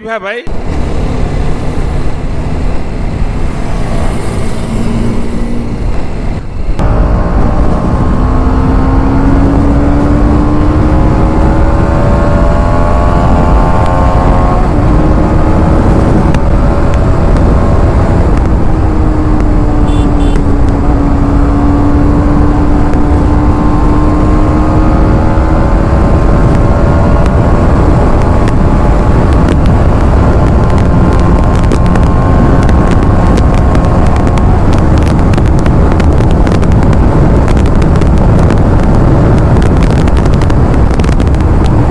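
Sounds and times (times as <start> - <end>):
motorcycle engine running: 0.5 - 41.9
wind rumble on microphone: 0.5 - 41.9.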